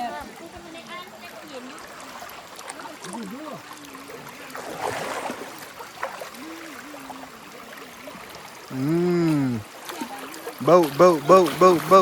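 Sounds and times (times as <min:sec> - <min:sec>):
waterfall stream running: 0:00.0 - 0:12.0.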